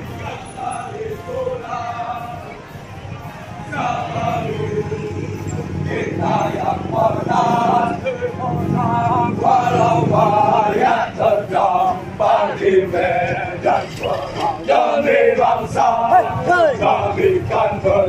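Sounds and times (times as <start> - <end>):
men chanting running cadence: 0.0 - 2.8, 3.5 - 18.0.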